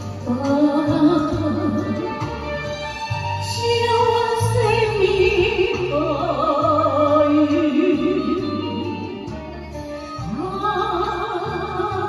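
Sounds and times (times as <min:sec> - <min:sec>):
instrumental backing music: 0:00.0 - 0:12.0
woman singing into a microphone: 0:00.0 - 0:12.0.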